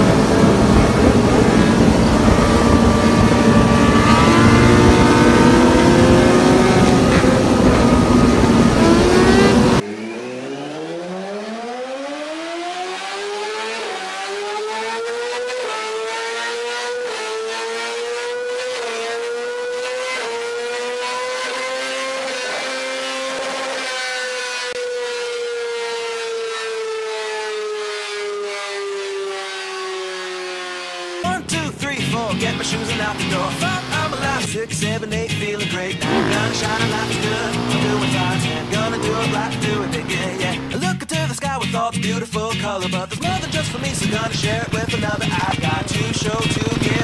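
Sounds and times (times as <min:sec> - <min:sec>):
motorcycle engine accelerating: 0:00.0 - 0:28.4, 0:30.8 - 0:41.0, 0:43.1 - 0:47.0.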